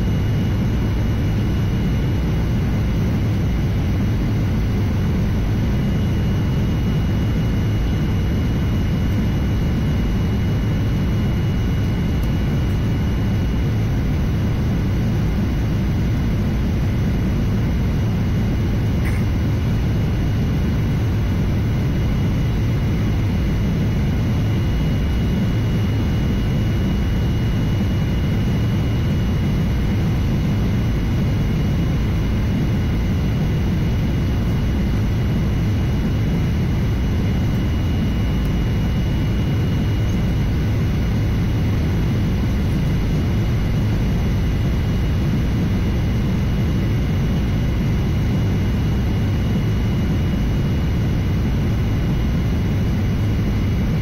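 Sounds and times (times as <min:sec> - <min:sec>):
faint high whine: 0:00.0 - 0:54.0
low rumble of airflow and engines: 0:00.0 - 0:54.0.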